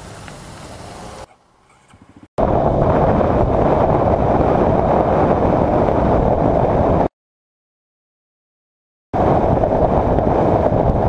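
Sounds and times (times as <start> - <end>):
motorcycle engine and road noise: 0.0 - 7.1, 9.2 - 11.0
wind rush on microphone: 0.0 - 7.1, 9.2 - 11.0.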